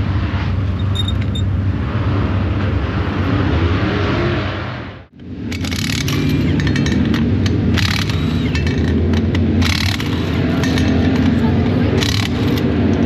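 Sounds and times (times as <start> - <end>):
race car engines running: 0.0 - 13.0.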